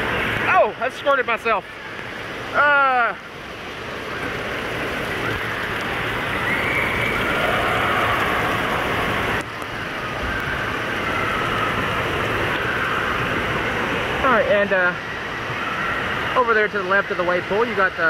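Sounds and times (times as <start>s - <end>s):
water spraying and splashing: 0.0s - 18.0s.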